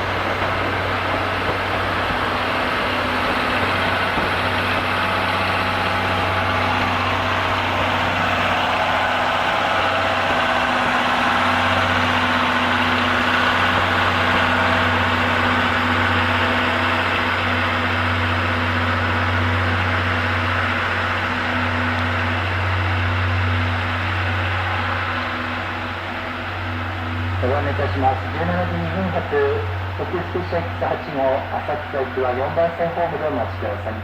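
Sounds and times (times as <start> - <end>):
heavy engine idling: 0.0 - 34.0.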